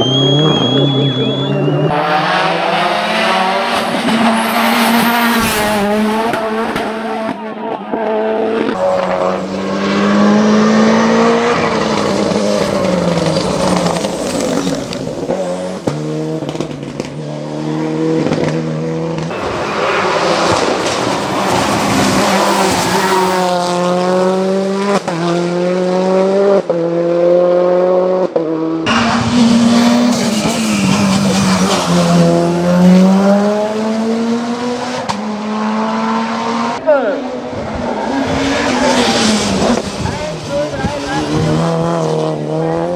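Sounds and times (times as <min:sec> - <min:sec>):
car engine at full throttle: 0:00.0 - 0:42.9.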